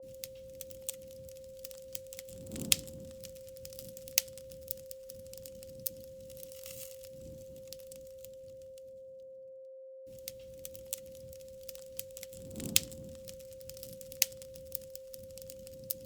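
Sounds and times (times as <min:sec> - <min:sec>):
wood fire crackling: 0:00.0 - 0:09.0, 0:10.1 - 0:16.0.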